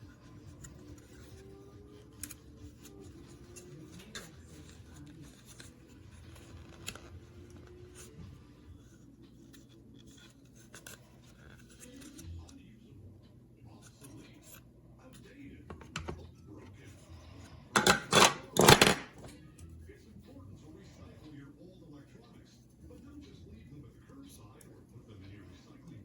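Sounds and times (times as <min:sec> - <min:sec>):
faint handling noises: 0:00.0 - 0:26.0.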